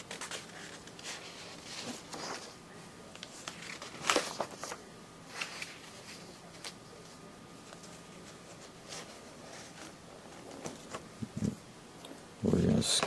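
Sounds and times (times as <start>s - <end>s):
paper pages rustling: 0.0s - 11.6s.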